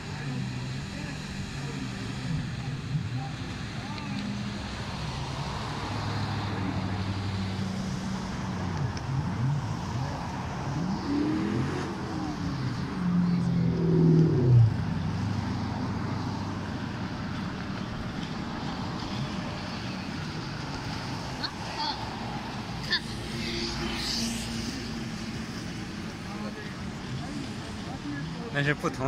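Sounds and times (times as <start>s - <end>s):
engines revving and passing: 0.0s - 29.0s.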